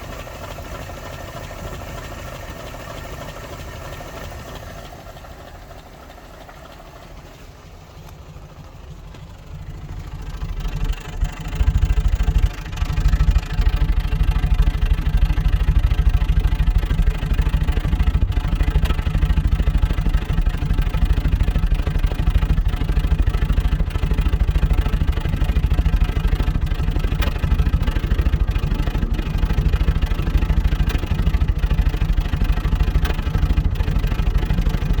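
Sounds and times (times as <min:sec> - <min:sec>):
engine running with misfire: 0:00.0 - 0:35.0.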